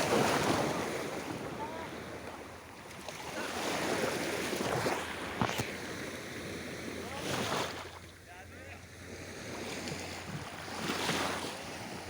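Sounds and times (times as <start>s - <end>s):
small waves washing in: 0.0s - 12.0s.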